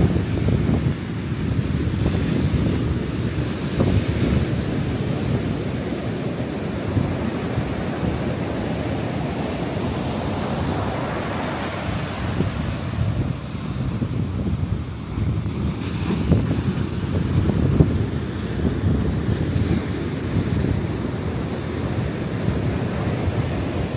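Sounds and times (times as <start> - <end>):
ocean surf breaking on beach: 0.0 - 23.9
wind rumbling on microphone: 0.0 - 23.9.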